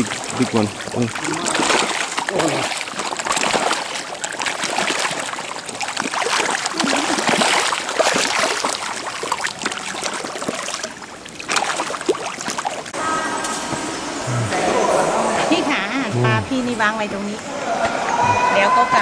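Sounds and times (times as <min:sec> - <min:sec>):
water splashing around a boat: 0:00.0 - 0:19.0.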